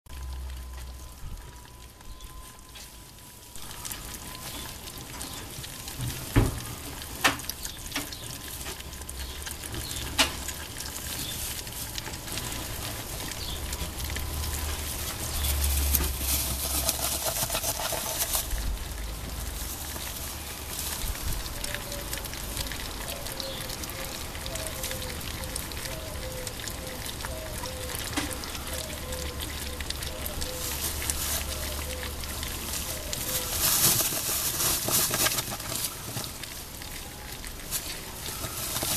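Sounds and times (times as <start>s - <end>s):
animals chewing and tearing: 0.1s - 38.9s.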